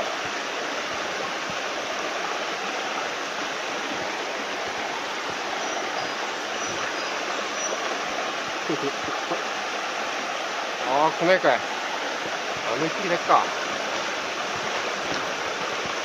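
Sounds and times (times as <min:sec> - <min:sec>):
stream flowing over stones: 0:00.0 - 0:16.0.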